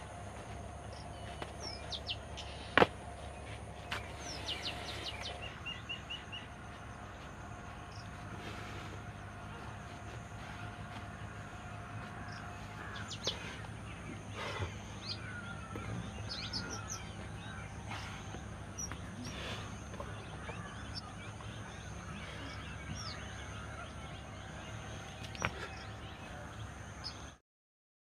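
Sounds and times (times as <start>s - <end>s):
low background rumble: 0.0s - 27.4s
small birds chirping: 0.0s - 27.4s.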